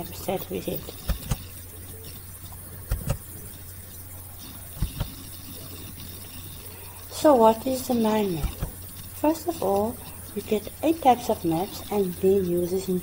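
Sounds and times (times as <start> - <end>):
steady low background hum: 0.0 - 13.0.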